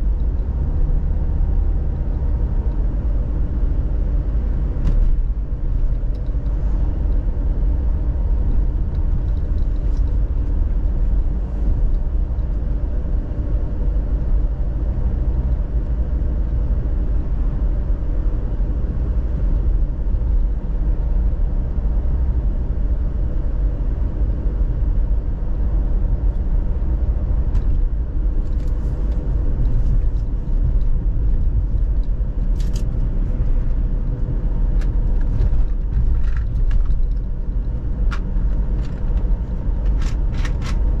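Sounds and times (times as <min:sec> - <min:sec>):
car road and engine rumble: 0:00.0 - 0:41.0.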